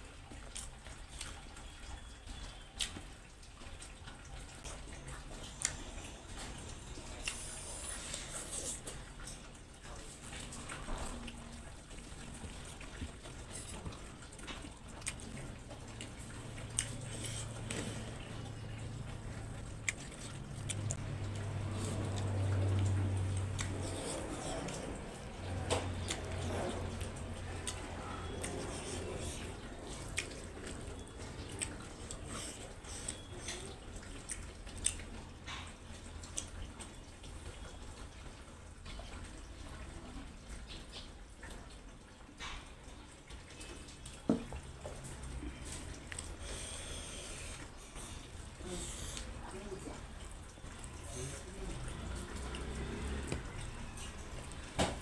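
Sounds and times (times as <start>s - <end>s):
wet chewing and mouth smacks: 0.3s - 39.2s, 40.6s - 55.0s.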